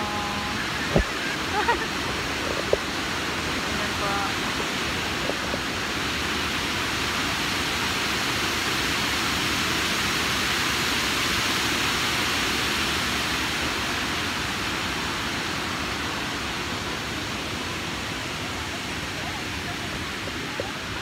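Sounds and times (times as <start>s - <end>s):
water rushing over spillway: 0.0s - 21.0s.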